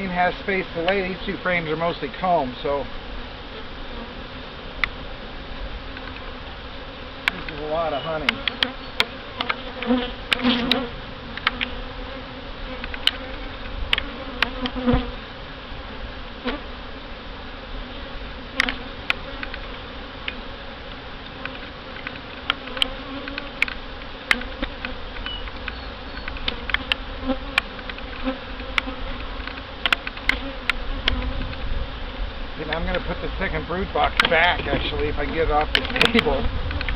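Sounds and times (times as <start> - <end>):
bees buzzing: 0.0 - 36.9.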